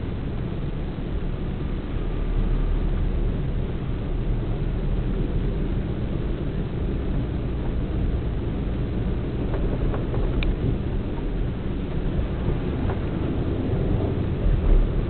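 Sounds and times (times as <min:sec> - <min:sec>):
vehicle wind and road noise: 0:00.0 - 0:15.0.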